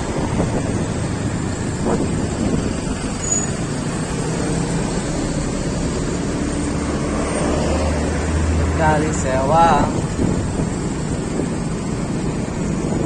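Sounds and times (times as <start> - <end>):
vehicle engine and tyres: 0.0 - 13.0
wind buffeting microphone: 0.0 - 13.0.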